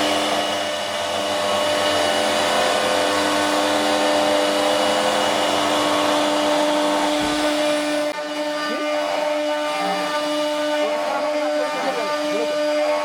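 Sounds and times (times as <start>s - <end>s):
high-speed motor whine: 0.0s - 13.0s.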